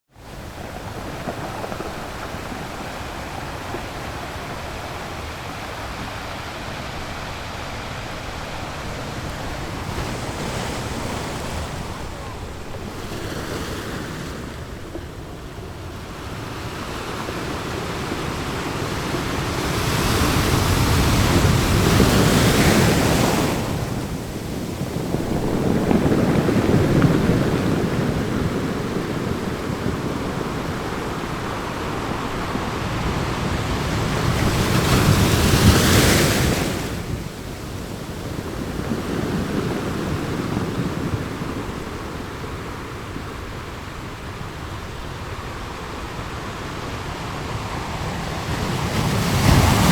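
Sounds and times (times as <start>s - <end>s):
ocean surf: 0.1s - 49.9s
waves breaking: 0.1s - 49.9s.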